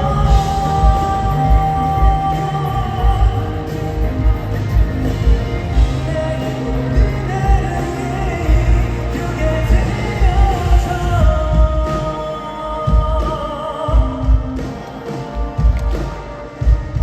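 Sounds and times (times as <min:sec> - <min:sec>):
live pop ballad by band: 0:00.0 - 0:17.0
person singing: 0:00.0 - 0:17.0
steady drum beat: 0:00.0 - 0:17.0.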